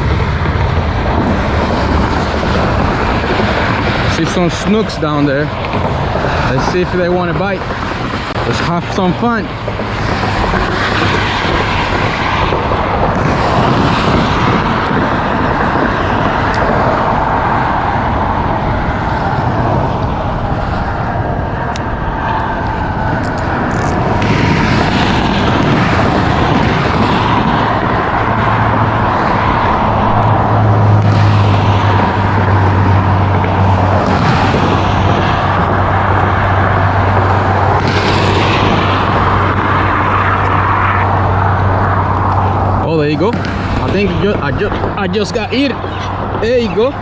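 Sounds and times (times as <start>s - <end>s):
low hum: 0.0s - 45.0s
traffic rumbling over bridge: 0.0s - 47.0s.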